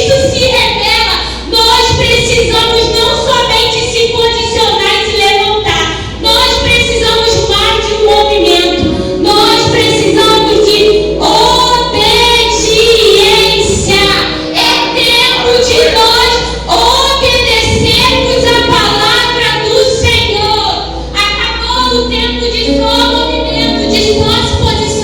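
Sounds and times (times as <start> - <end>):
girl singing: 0.0 - 25.0
musical accompaniment: 1.5 - 25.0.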